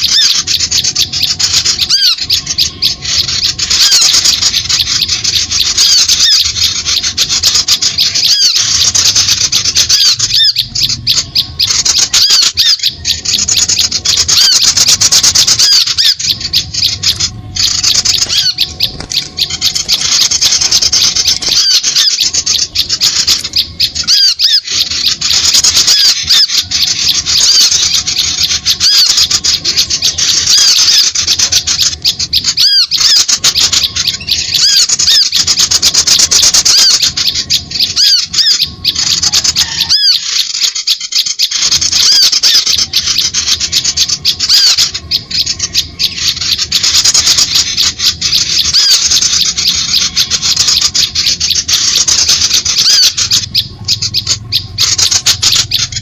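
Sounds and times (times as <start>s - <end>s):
small birds calling rapidly: 0.0s - 56.0s.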